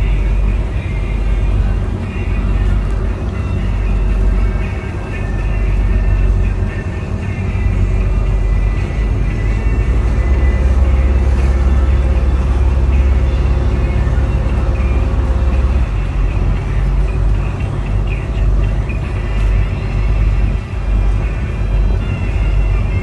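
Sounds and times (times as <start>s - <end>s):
motorboat engine rumble: 0.0s - 23.0s
water rushing from wake: 0.0s - 23.0s.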